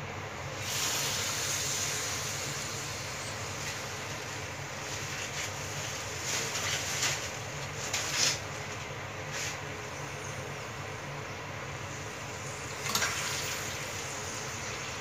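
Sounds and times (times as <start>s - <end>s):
hot oil sizzling: 0.5s - 8.7s, 10.4s - 15.0s.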